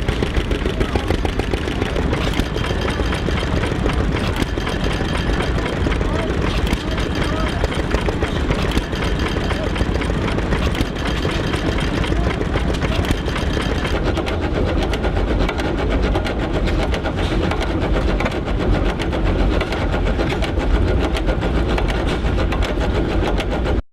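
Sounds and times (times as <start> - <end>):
old engine knocking: 0.0 - 23.8.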